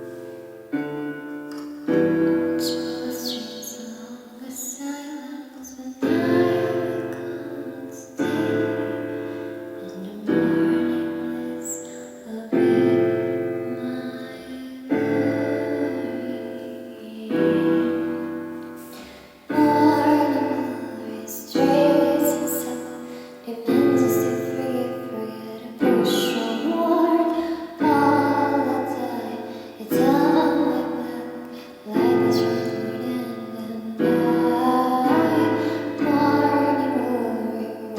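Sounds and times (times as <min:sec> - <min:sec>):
piano chords: 0:00.0 - 0:37.9
woman singing: 0:01.6 - 0:37.9.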